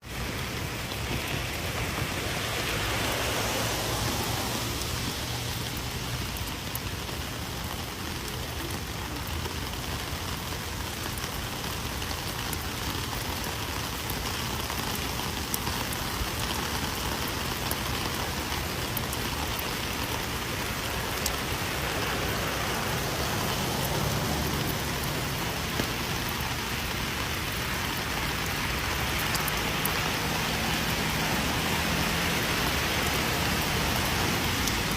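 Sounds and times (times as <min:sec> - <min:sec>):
rain hissing on surfaces: 0:00.0 - 0:34.9.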